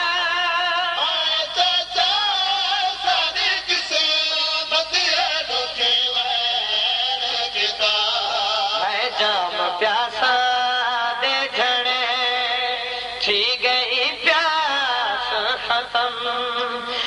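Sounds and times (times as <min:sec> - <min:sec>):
man singing a lament into microphone: 0:00.0 - 0:17.0.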